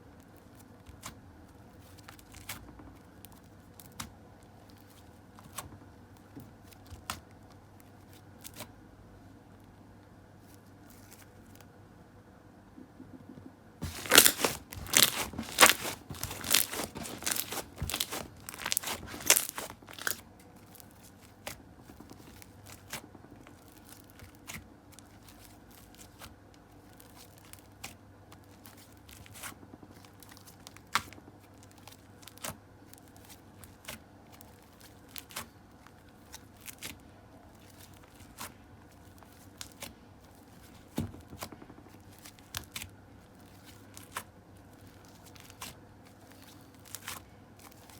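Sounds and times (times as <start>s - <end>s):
slime crackling and popping: 0.2s - 5.6s, 13.8s - 47.9s.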